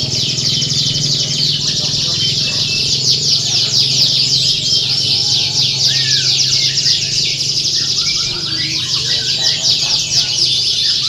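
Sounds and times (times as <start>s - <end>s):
canaries singing in chorus: 0.0s - 11.0s.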